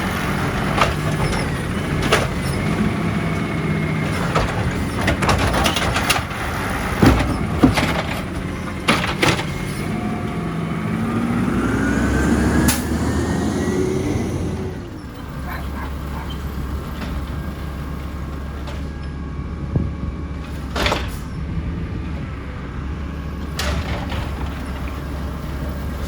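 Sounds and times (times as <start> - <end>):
garbage truck diesel engine: 0.0 - 26.0.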